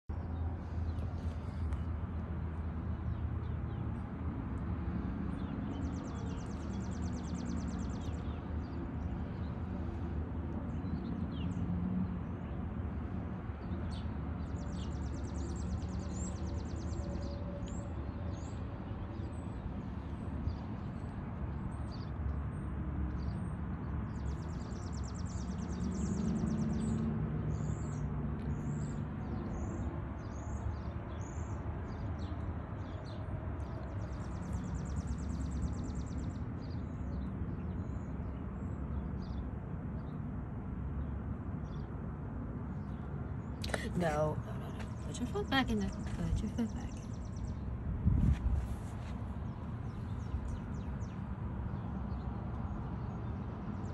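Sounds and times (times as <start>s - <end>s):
songbirds chirping: 0.1s - 53.9s.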